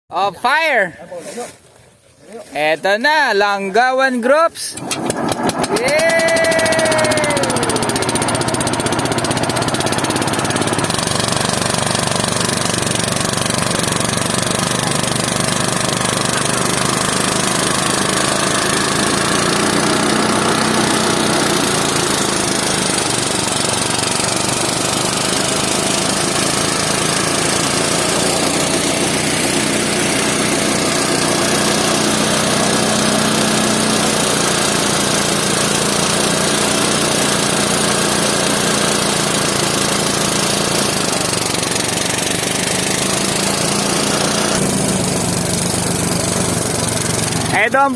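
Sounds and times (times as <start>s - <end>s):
small engine running: 4.7s - 47.9s.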